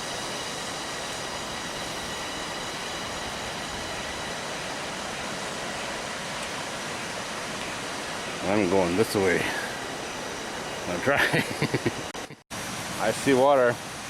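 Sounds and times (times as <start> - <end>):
even rushing noise: 0.0 - 14.0
jungle insects droning: 0.0 - 14.0.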